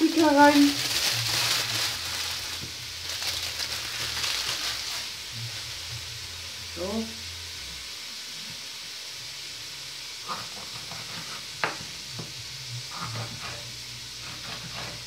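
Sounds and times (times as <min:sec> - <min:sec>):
meat and onions sizzling in a pan: 0:00.0 - 0:15.0.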